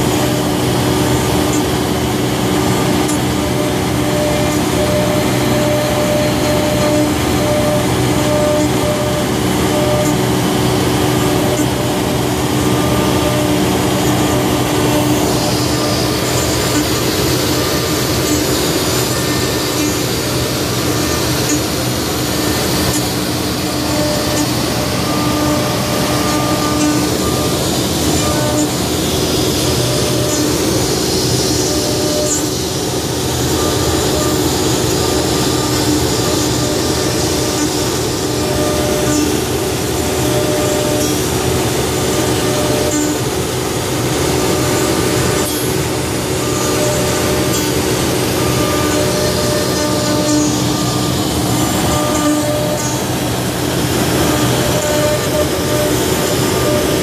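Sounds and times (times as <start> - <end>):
router spindle cutting wood: 0.0 - 57.0.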